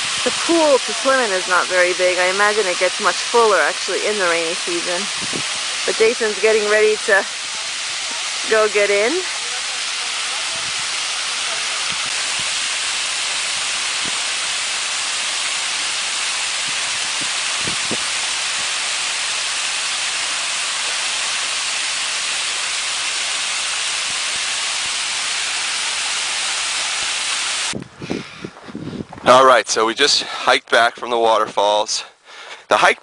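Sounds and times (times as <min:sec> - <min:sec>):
waterfall rushing: 0:00.0 - 0:27.8.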